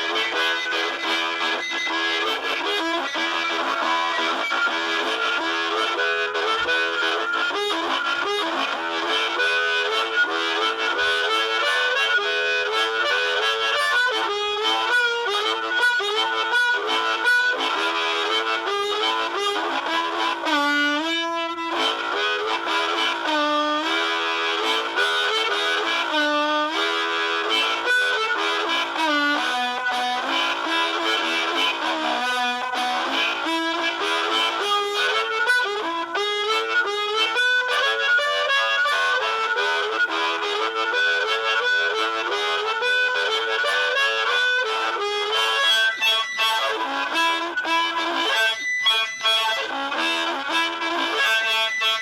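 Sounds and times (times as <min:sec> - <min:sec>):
harmonica playing chords: 0:00.0 - 0:52.0.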